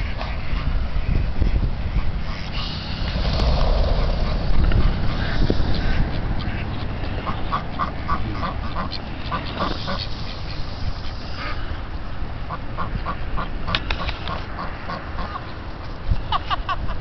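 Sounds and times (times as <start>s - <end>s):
ducks quacking: 0.0s - 11.8s, 12.4s - 15.6s
steady low rumble: 0.0s - 17.0s.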